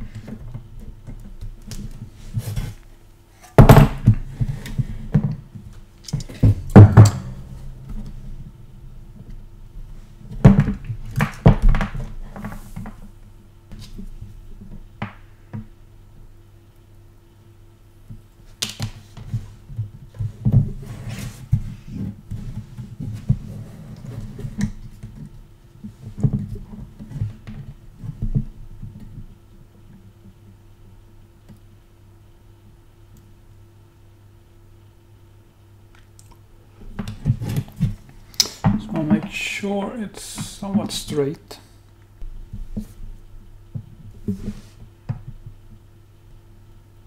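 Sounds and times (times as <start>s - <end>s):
low electrical hum: 0.0s - 47.0s.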